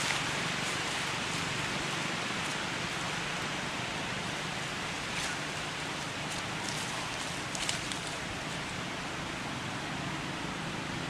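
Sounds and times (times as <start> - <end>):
hissing forest ambience: 0.0 - 11.0.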